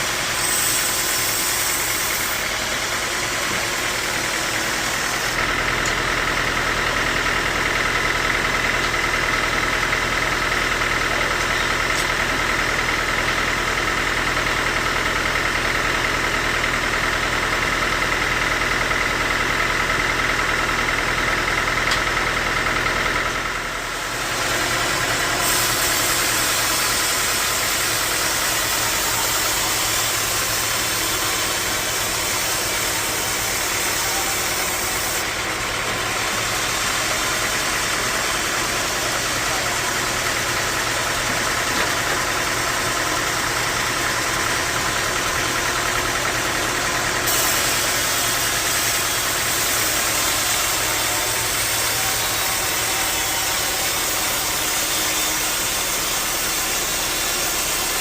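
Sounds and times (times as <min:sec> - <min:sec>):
band sawmill running: 0:00.0 - 0:58.0
saw blade whine: 0:00.0 - 0:58.0.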